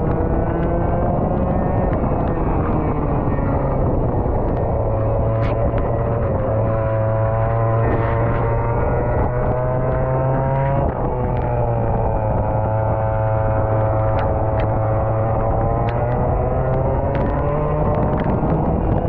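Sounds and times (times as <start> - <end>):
racing kart engine: 0.0 - 19.0.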